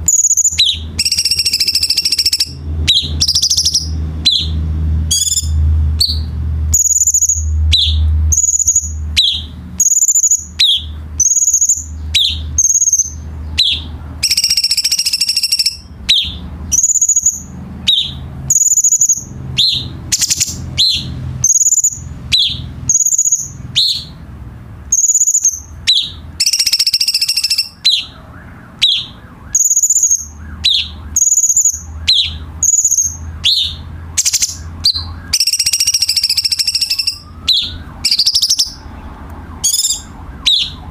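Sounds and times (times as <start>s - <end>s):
harsh bird chatter: 0.0s - 40.9s.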